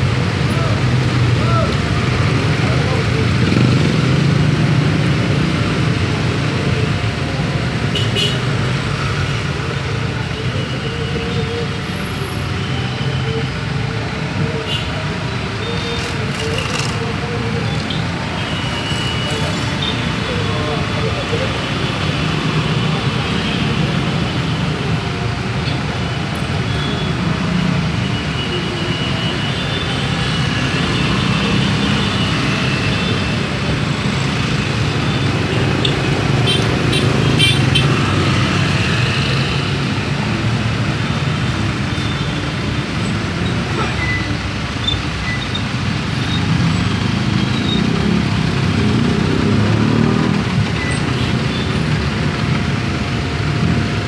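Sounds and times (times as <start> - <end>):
scooters and cars passing: 0.0 - 54.0.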